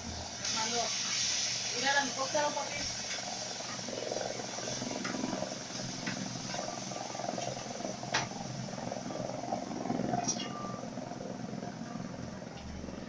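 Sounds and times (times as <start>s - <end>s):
hissing noise: 0.0s - 13.0s
distant helicopter rotor pulsing: 1.6s - 13.0s.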